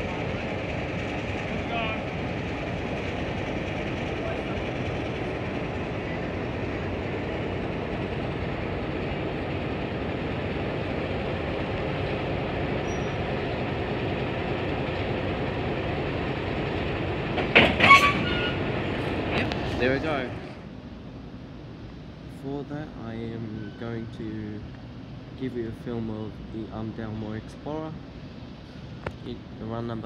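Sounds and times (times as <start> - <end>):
diesel locomotive running: 0.0 - 30.0.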